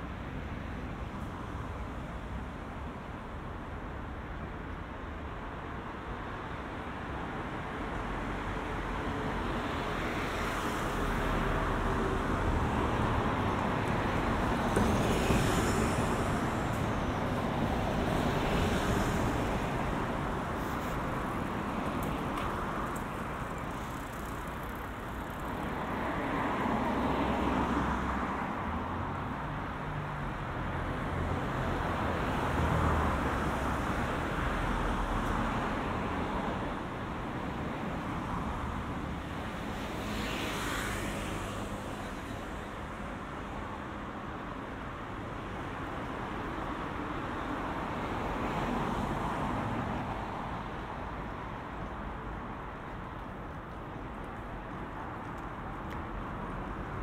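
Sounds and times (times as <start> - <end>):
cars passing: 5.1 - 57.0.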